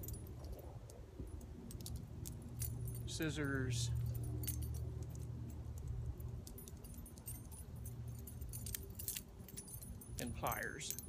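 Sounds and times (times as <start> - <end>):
keys jangling: 0.0 - 11.0.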